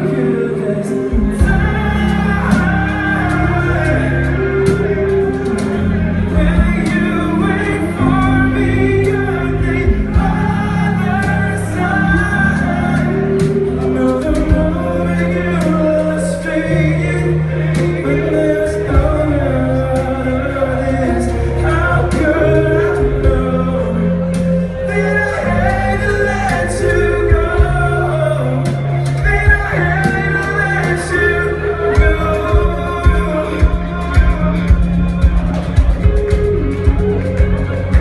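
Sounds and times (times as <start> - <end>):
acoustic band playing: 0.0 - 38.0
man singing into a microphone: 0.0 - 38.0.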